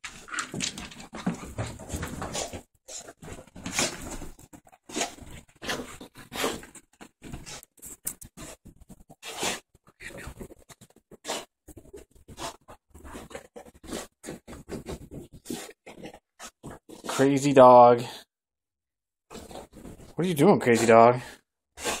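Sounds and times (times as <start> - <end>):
dog paws scratching: 0.0 - 17.6, 19.3 - 21.1.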